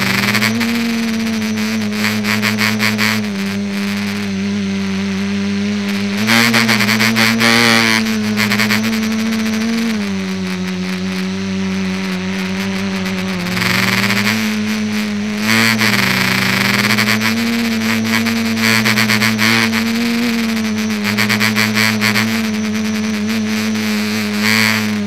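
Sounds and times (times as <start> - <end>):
electric motors and propellers whining: 0.0 - 25.0.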